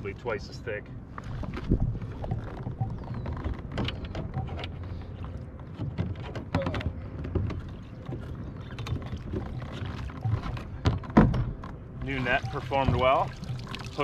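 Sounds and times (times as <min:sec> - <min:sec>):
water splashing and lapping: 0:00.9 - 0:14.0.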